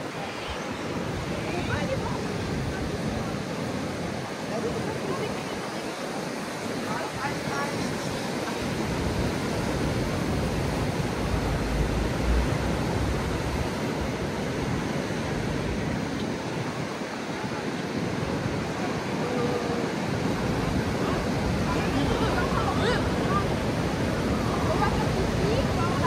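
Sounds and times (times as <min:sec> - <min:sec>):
heavy ocean surf: 0:00.0 - 0:26.0
wind on microphone: 0:00.0 - 0:26.0.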